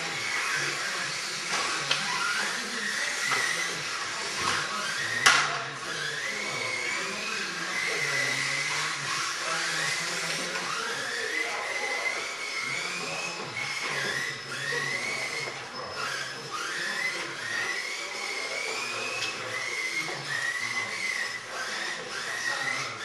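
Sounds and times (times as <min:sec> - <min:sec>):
rc car electric motors whining: 0:00.0 - 0:23.0.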